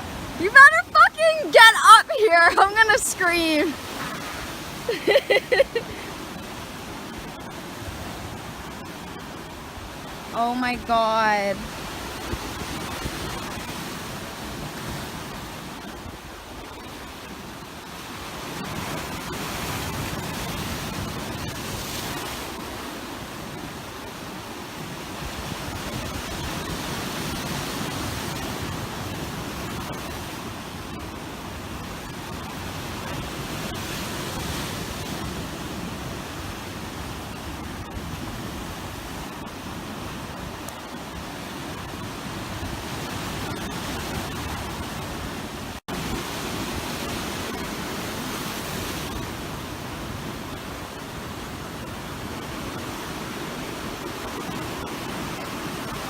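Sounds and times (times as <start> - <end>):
surf washing over rocks: 0.0 - 56.0.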